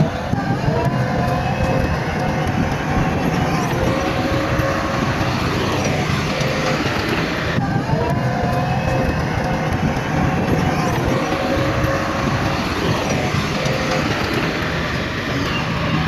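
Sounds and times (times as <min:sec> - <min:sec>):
heavy diesel machinery running: 0:00.0 - 0:16.0
steady whine: 0:00.0 - 0:16.0.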